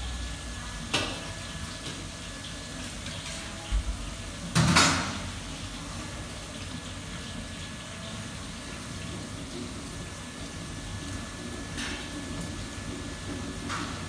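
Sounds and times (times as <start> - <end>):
kitchen background hum: 0.0 - 14.0.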